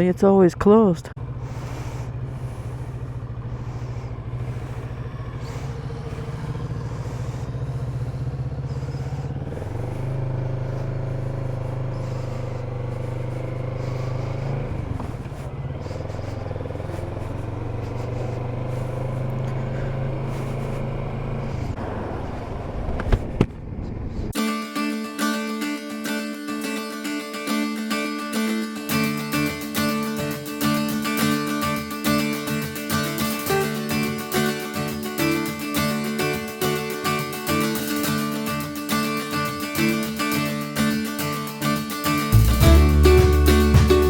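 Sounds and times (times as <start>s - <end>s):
motorcycle engine running: 0.0s - 24.5s, 25.9s - 44.0s.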